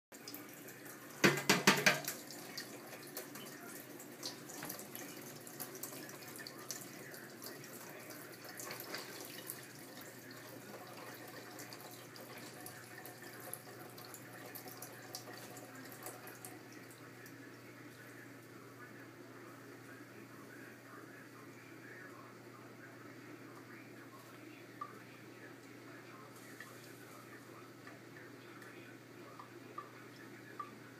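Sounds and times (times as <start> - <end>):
dishwasher low hum: 0.2 - 30.9.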